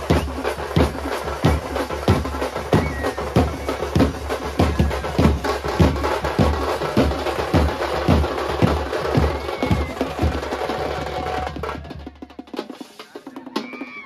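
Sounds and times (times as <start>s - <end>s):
drums beating a driving rhythm: 0.0s - 14.0s.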